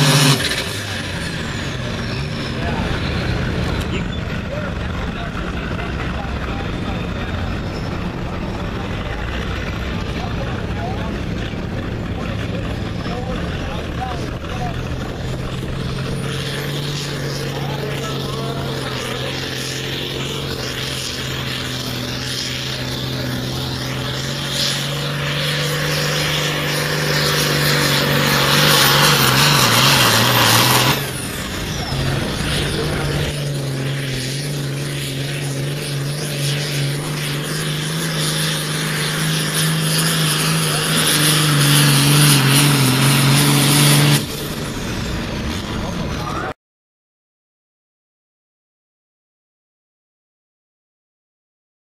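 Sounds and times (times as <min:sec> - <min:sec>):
diesel tractor engines under load: 0:00.0 - 0:46.6.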